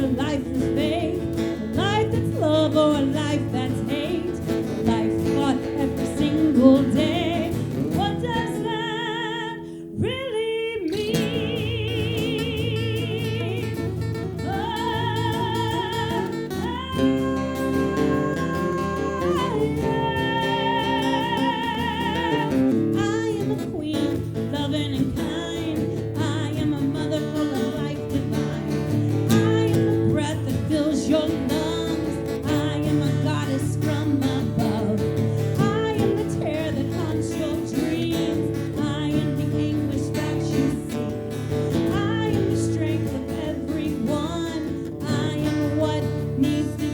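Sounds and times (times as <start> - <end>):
folk music with guitar: 0.0 - 46.9.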